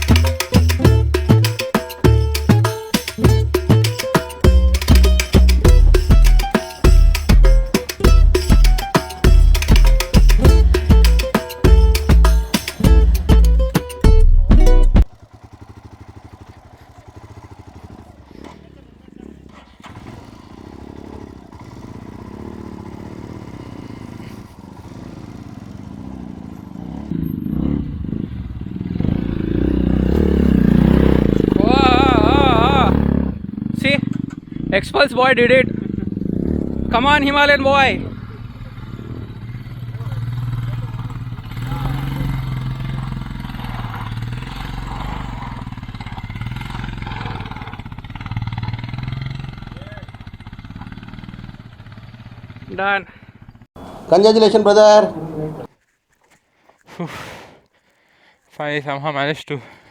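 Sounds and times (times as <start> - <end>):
motorcycle engine revving: 0.0 - 55.7.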